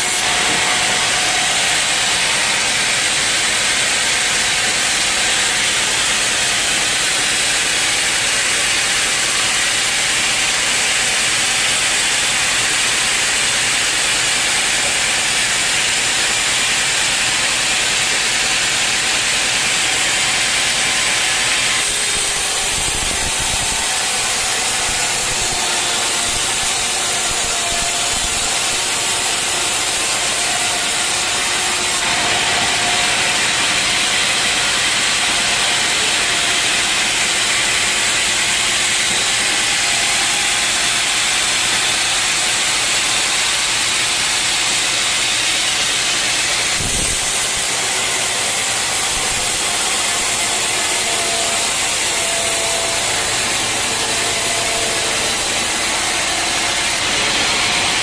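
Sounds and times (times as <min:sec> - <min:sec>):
saw cutting through log: 0:00.0 - 0:58.0.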